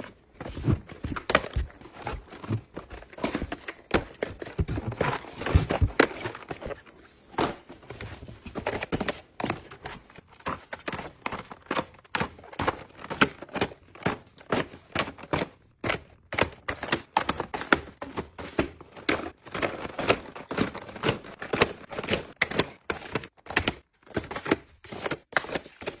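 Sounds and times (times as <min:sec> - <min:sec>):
crinkling: 0:00.0 - 0:26.0.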